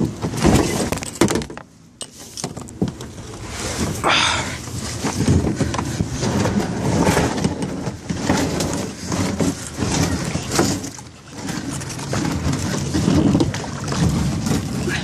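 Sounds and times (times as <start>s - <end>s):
water splashing around kayak: 2.1s - 15.0s
wind rumble: 2.6s - 15.0s.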